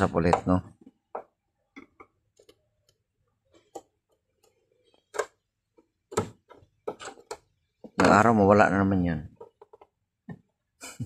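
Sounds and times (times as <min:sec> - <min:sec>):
tools and parts clicking and knocking: 0:00.2 - 0:08.3, 0:09.3 - 0:10.5.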